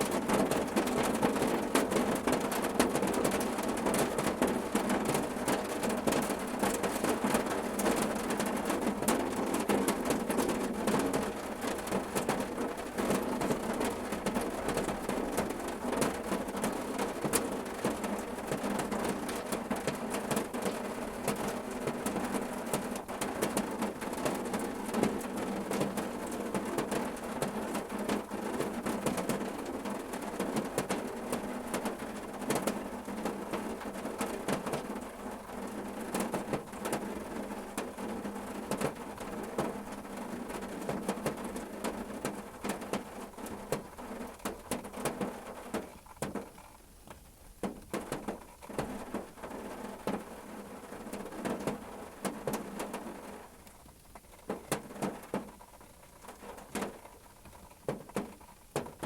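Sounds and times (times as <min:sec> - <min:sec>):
rain on a car roof: 0:00.0 - 0:59.0.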